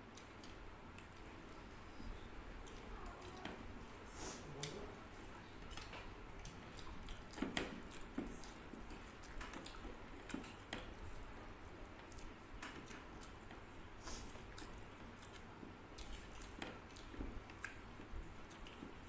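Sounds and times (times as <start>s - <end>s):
chewing and lip smacks: 0.0s - 3.6s, 4.6s - 19.0s.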